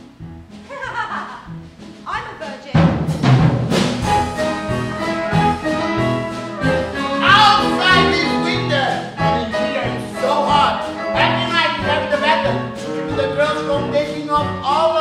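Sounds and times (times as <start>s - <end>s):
musical theatre band playing: 0.0s - 15.0s.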